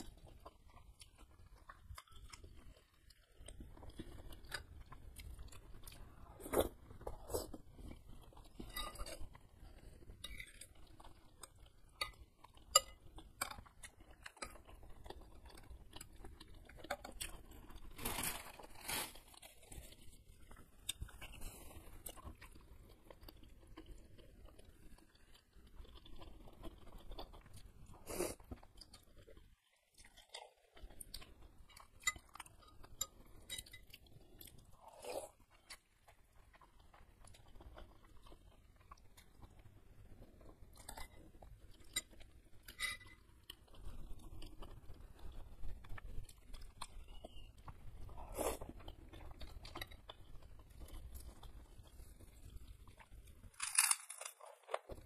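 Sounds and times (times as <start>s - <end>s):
person chewing wet mouth sounds: 0.0s - 17.9s, 19.6s - 53.4s.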